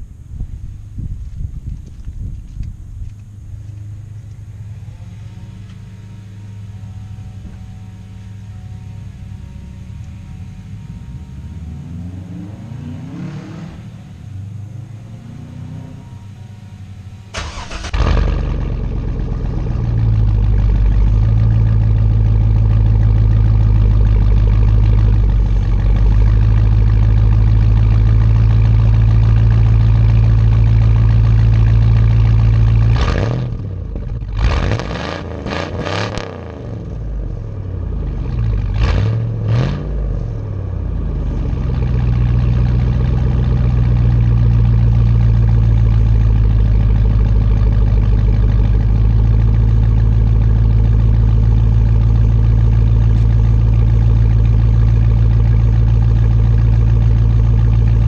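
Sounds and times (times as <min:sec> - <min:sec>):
car engine idling: 0:00.0 - 0:35.6, 0:36.5 - 0:58.0
engine throttle blips: 0:00.0 - 0:58.0.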